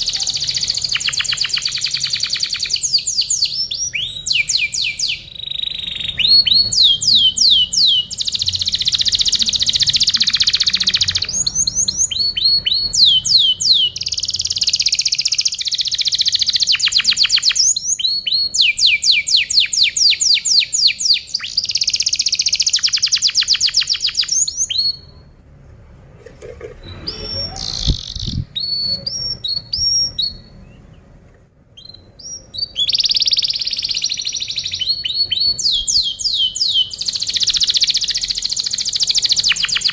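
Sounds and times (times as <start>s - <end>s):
canary singing trills: 0.0s - 25.4s, 26.8s - 39.9s.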